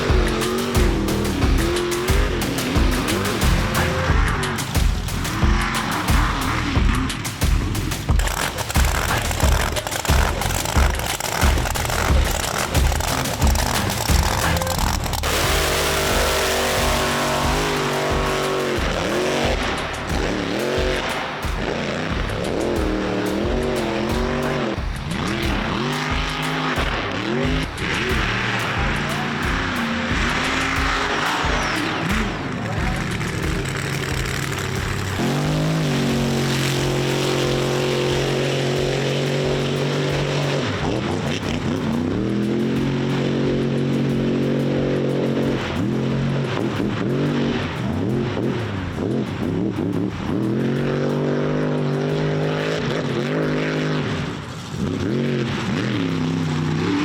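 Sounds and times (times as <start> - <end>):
music beat: 0.0 - 57.0
truck engine revving: 0.0 - 57.0.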